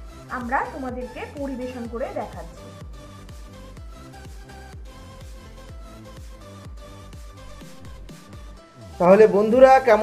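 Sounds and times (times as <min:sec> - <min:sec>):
music with electronic beat: 0:00.0 - 0:10.0.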